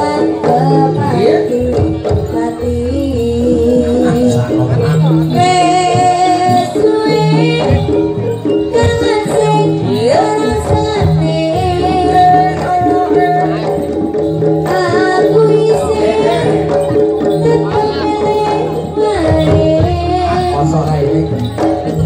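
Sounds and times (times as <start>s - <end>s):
ornamented melody line: 0.0s - 22.0s.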